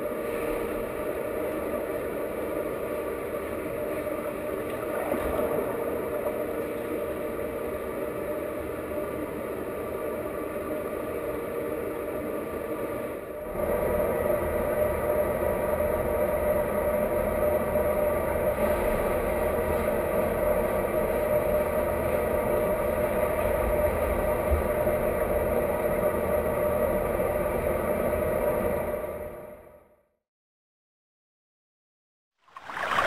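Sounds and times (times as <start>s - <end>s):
underwater pool drone: 0.0s - 30.0s, 32.5s - 33.0s.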